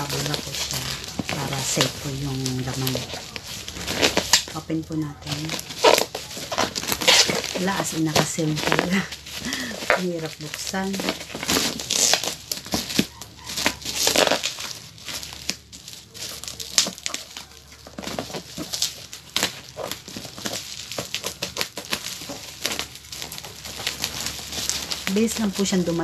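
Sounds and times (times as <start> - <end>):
plastic packaging crinkling and tearing: 0.0 - 26.0.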